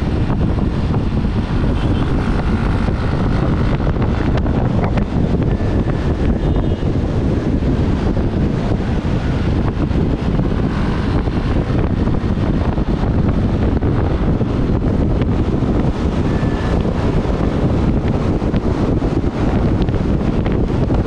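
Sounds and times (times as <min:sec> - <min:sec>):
road noise: 0:00.0 - 0:21.0
wind rush on microphone: 0:00.0 - 0:21.0.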